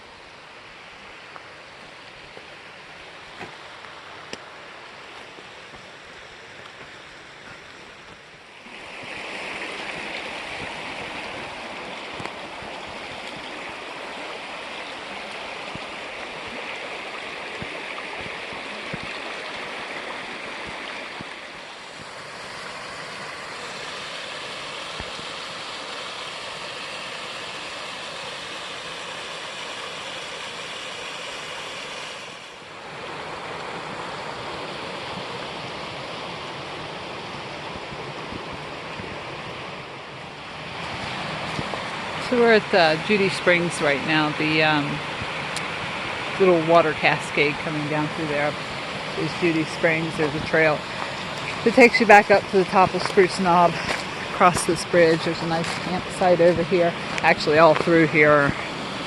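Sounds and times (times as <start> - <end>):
water rushing in a mountain creek: 0.0 - 59.0.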